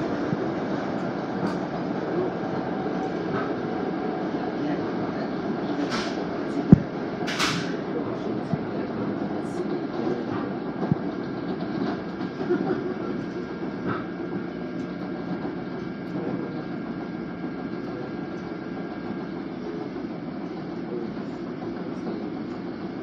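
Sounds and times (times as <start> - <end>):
train wheels on rail: 0.0 - 23.0.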